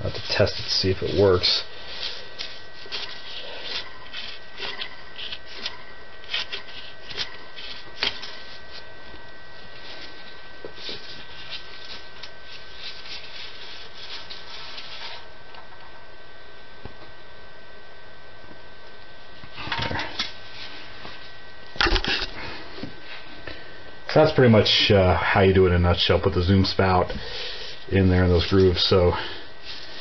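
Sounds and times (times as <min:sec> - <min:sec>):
faint high whine: 0:00.0 - 0:30.0.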